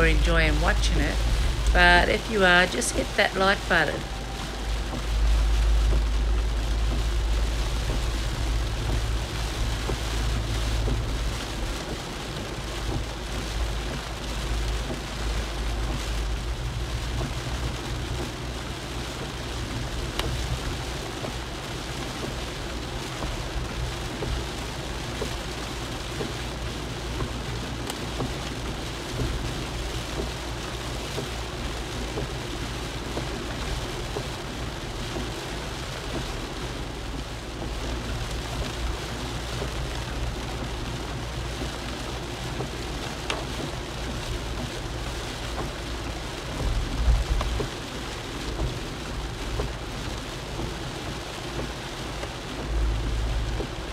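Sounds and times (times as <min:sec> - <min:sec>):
deep rumble: 0:00.0 - 0:26.0, 0:31.4 - 0:53.9
rain on car roof: 0:00.0 - 0:53.9
road noise on wet road: 0:00.0 - 0:53.9.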